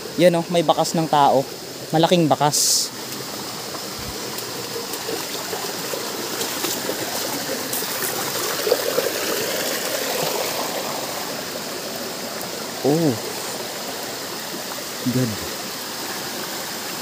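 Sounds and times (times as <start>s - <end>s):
stream water over rocks: 0.0s - 17.0s.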